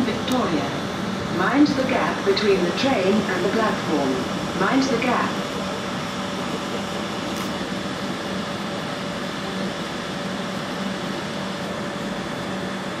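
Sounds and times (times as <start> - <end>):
electric train ventilation hum: 0.0 - 13.0.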